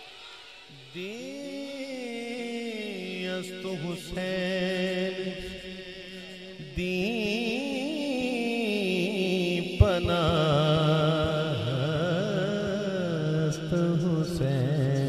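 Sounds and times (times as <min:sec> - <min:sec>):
steady held drone: 0:00.0 - 0:15.0
man singing melismatic line: 0:00.9 - 0:05.6, 0:06.2 - 0:15.0.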